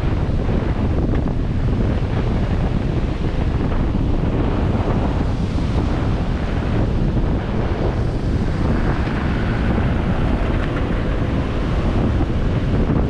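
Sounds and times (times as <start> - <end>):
low vehicle rumble: 0.0 - 13.0
wind buffeting microphone: 0.0 - 13.0
surf breaking: 0.1 - 13.0.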